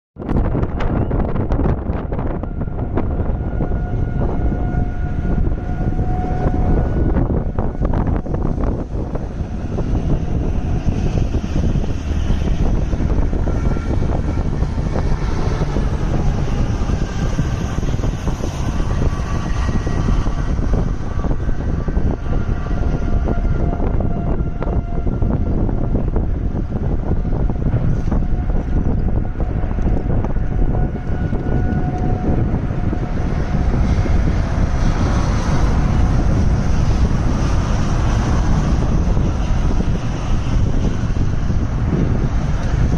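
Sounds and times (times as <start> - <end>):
storm wind buffeting microphone: 0.2 - 42.9.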